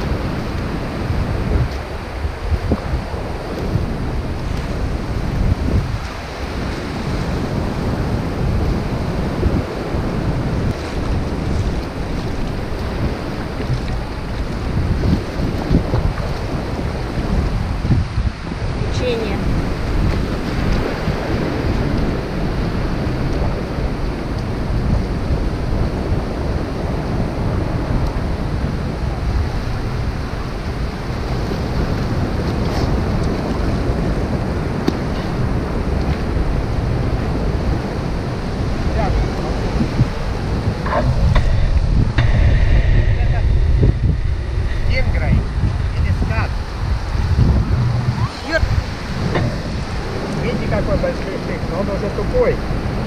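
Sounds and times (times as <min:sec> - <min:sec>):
surf washing up beach: 0:00.0 - 0:53.0
wind buffeting microphone: 0:00.0 - 0:53.0.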